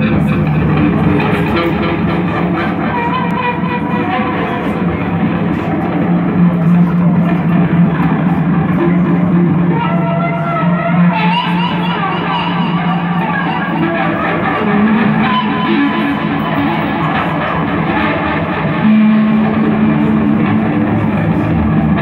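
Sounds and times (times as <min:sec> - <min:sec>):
electric guitar noisy effects wash: 0:00.0 - 0:22.0.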